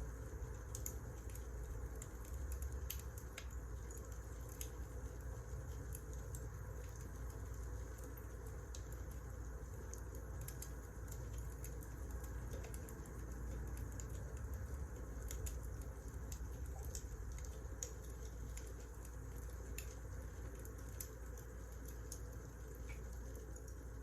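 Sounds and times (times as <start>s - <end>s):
logs crackling and popping: 0.6s - 23.9s.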